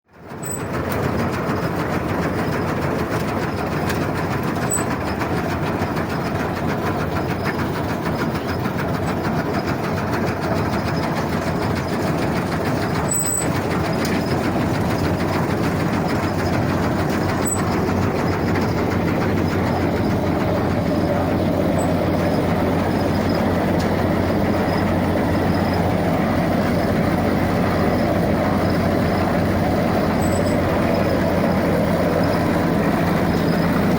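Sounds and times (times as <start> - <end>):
combine harvester running: 0.1 - 33.9.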